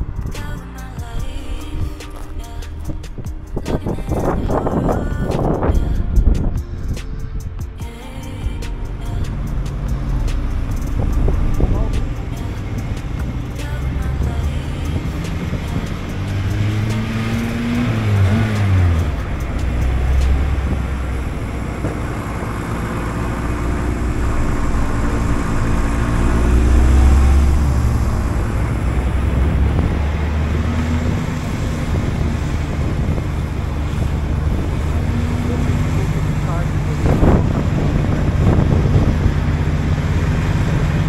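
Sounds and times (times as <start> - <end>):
car engines running at speed: 0.0 - 41.0
road and wind noise: 0.0 - 41.0.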